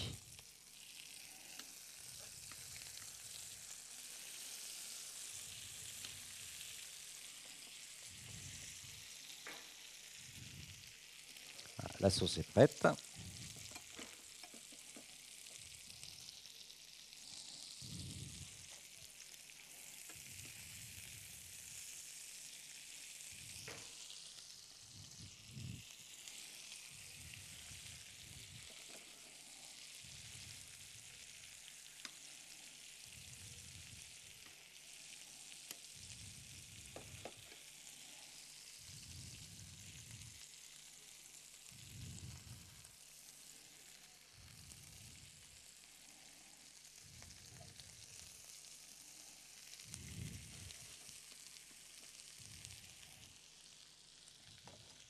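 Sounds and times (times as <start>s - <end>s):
meat sizzling in a frying pan: 0.0s - 55.0s.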